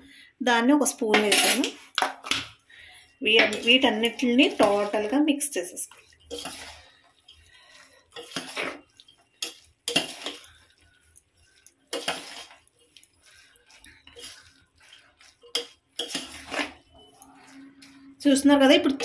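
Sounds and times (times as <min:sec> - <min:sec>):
ladle scraping in a pot: 0:03.2 - 0:19.0.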